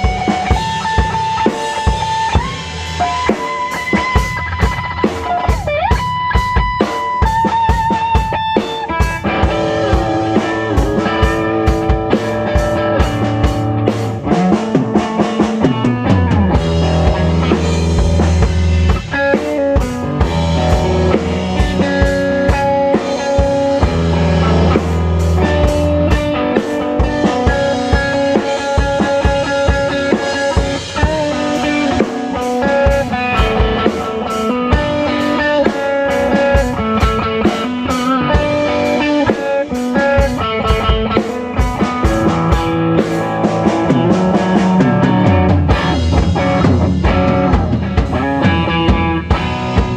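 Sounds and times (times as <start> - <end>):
drum kit beat: 0.0 - 49.9
guitar: 0.0 - 49.9
live rock band: 0.0 - 49.9.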